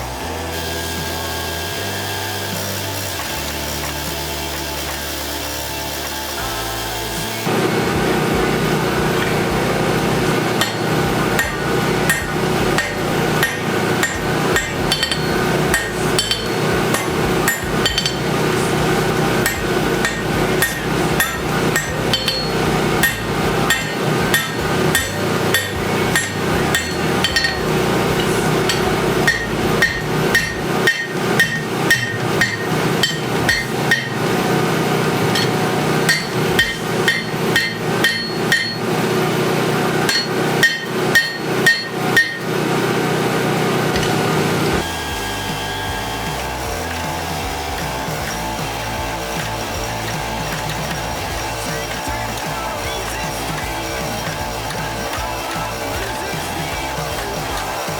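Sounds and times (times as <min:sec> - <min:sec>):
constant background rush: 0:00.0 - 0:57.9
hammer striking steel on anvil: 0:07.5 - 0:57.9.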